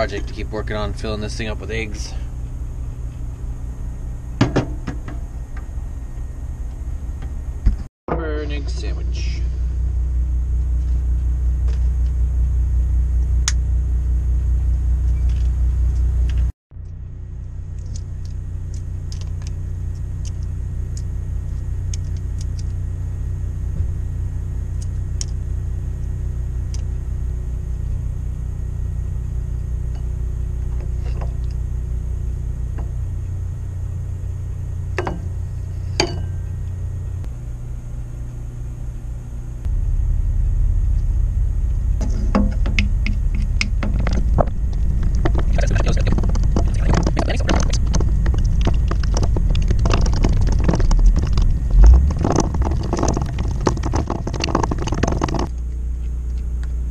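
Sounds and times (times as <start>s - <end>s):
machinery rumbling: 0.0s - 56.9s.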